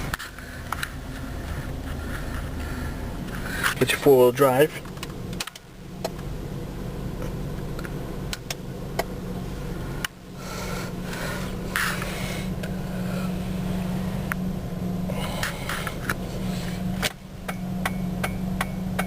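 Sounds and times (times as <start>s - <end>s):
cab controls clicking and rustling: 0.0s - 6.3s, 7.1s - 9.2s, 10.0s - 13.3s, 15.1s - 19.0s
truck engine idling: 0.0s - 19.0s.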